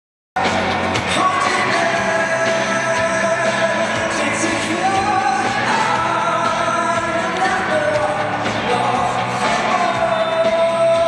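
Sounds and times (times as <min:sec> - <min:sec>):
pop-rock song with singer: 0:00.4 - 0:11.0.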